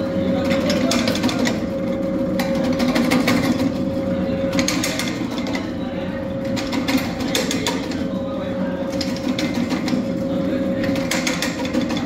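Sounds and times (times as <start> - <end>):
cutting machine humming and whining: 0.0 - 12.0.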